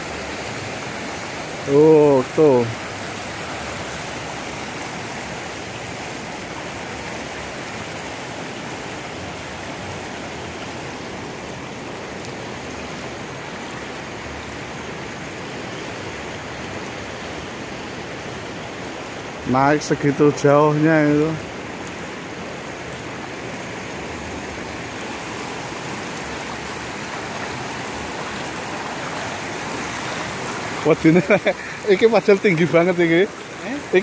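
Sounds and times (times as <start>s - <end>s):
river floodwater rushing: 0.0s - 34.0s.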